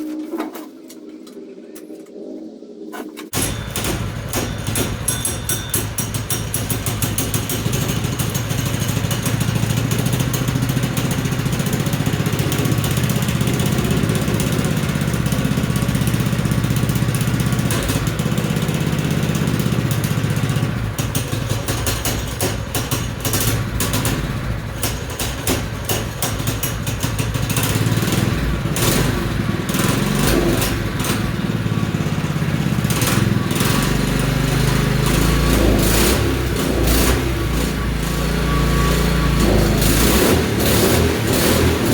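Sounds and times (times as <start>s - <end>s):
small engine running: 3.3s - 41.9s.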